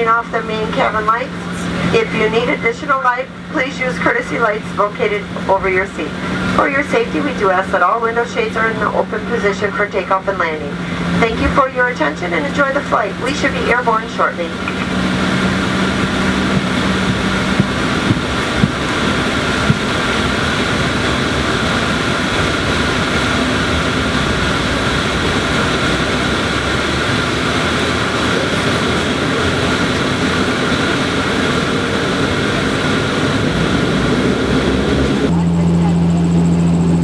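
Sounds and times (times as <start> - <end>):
turboprop engine and propeller: 0.0 - 37.0.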